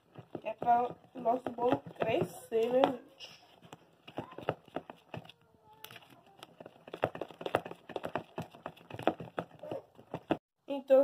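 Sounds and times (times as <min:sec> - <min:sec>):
spatula beating batter in bowl: 0:00.0 - 0:10.5.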